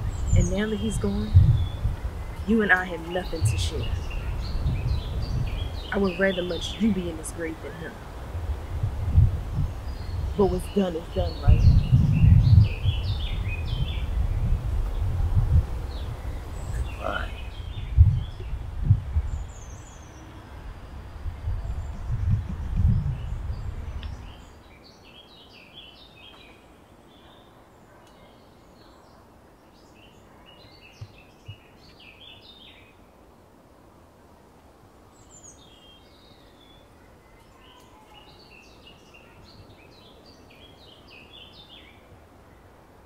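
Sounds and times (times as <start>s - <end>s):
small birds twittering: 0.0s - 33.2s, 35.0s - 42.7s
steady background hiss: 0.0s - 43.0s.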